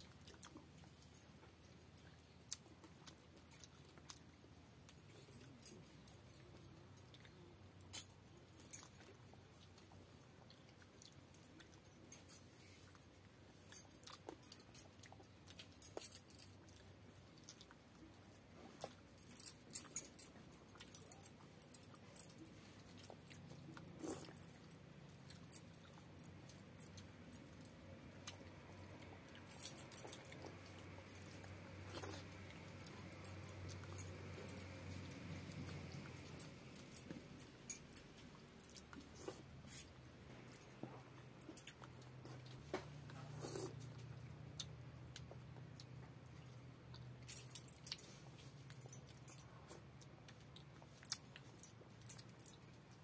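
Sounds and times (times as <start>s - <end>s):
person chewing food: 0.0s - 8.1s, 8.8s - 11.9s, 12.5s - 19.1s, 20.7s - 53.0s.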